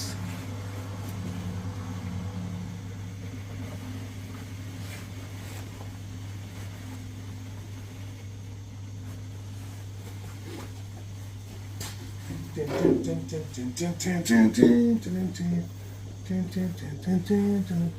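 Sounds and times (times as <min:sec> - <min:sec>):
low mechanical hum: 0:00.0 - 0:17.9.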